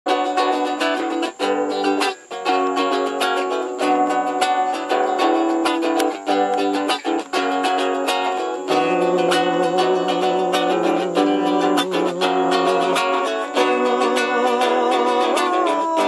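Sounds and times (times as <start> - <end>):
acoustic guitar playing: 0.1 - 16.0.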